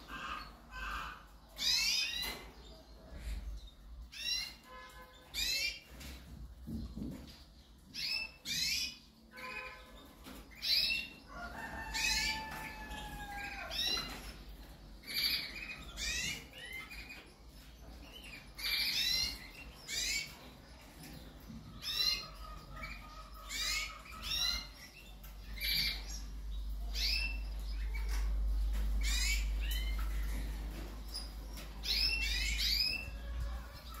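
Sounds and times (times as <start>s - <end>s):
canaries chirping: 0.0s - 34.0s.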